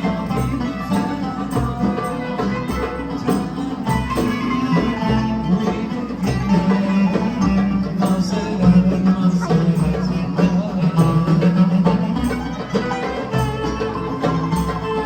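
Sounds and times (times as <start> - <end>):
plucked string ensemble: 0.0 - 15.0.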